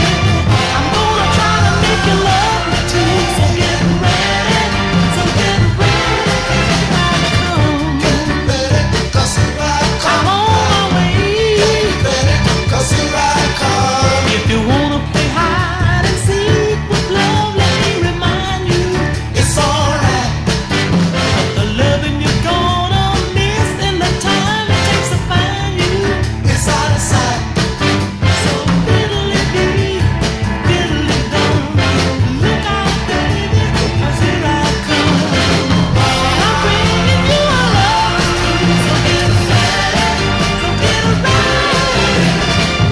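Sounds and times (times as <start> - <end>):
music with steady beat: 0.0 - 42.9.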